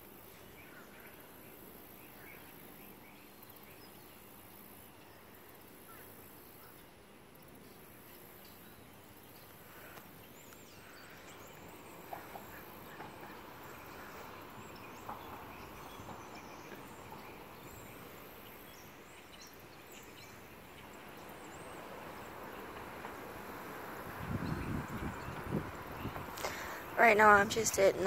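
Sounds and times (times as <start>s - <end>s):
background hiss: 0.0s - 28.0s.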